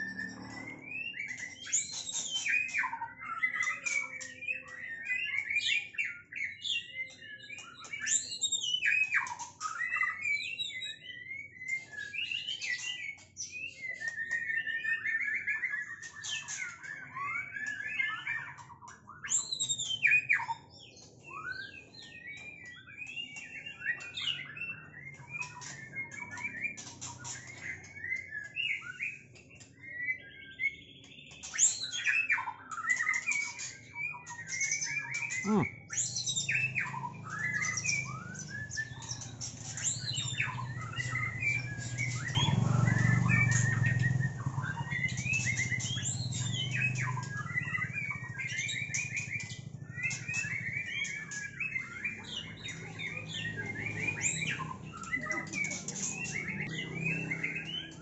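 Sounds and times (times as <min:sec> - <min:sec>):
birds singing and squawking: 0:00.0 - 0:58.0.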